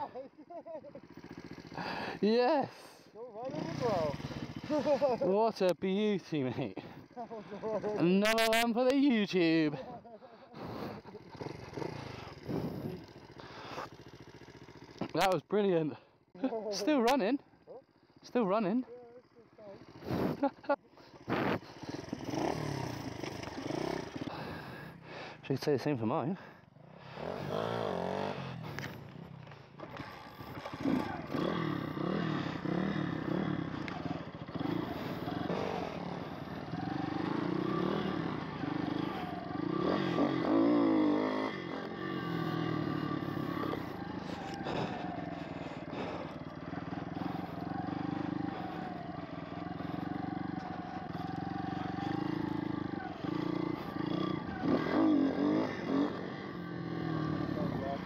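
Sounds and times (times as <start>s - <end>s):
pit bike engine revving: 0.0s - 15.2s, 16.7s - 58.0s.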